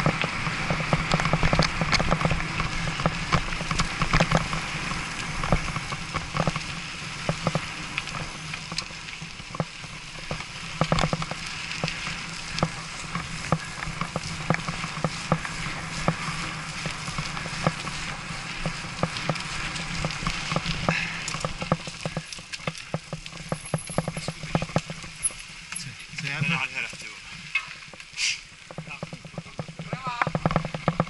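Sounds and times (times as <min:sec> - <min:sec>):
bike knocks and rattles: 0:00.0 - 0:26.6, 0:28.6 - 0:31.0
bicycle tyres and wind hiss: 0:00.0 - 0:31.0.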